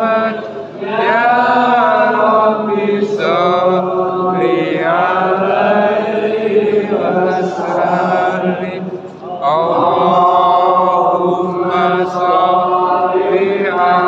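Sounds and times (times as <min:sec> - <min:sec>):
man chanting: 0:02.7 - 0:14.0.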